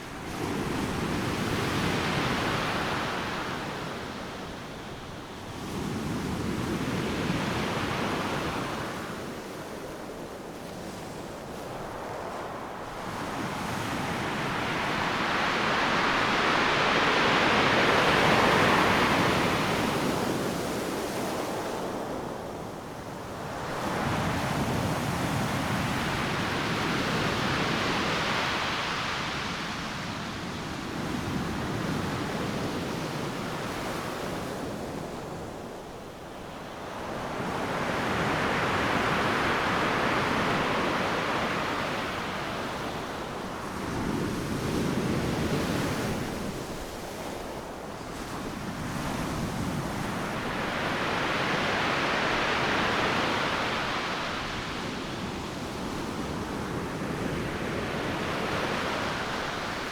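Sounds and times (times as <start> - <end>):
waves breaking on beach: 0.0 - 34.1, 35.6 - 59.9.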